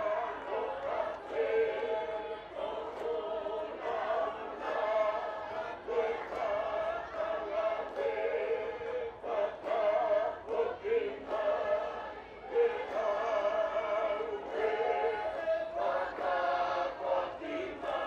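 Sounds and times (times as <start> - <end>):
group of voices chanting in harmony: 0.0 - 18.0.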